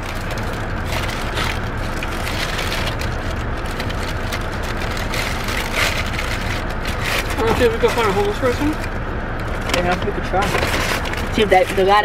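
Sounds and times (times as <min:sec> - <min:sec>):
crunchy taco shell chewing: 0:00.0 - 0:09.7
car interior hum: 0:00.0 - 0:12.0
paper wrapper crinkling: 0:00.0 - 0:12.0.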